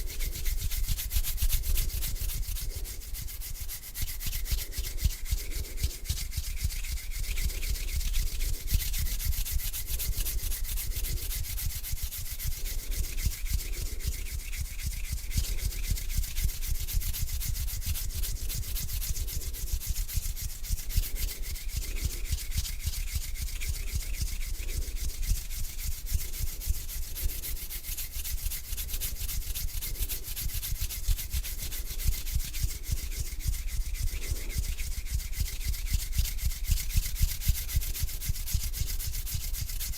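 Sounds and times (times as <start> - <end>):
hands rubbing together: 0.0 - 39.9.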